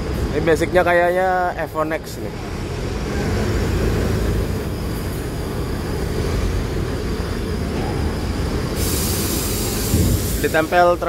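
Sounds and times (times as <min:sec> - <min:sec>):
coach diesel engine rumble: 0:00.0 - 0:11.0.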